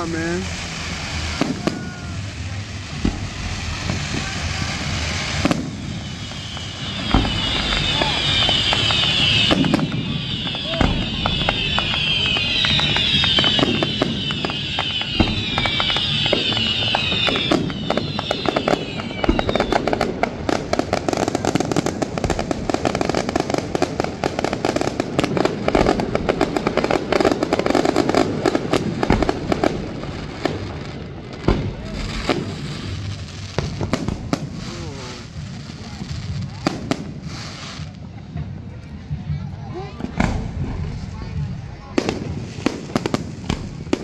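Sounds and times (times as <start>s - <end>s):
fireworks whistles falling in pitch: 0.0s - 38.1s
fireworks bangs and crackles: 0.0s - 44.0s.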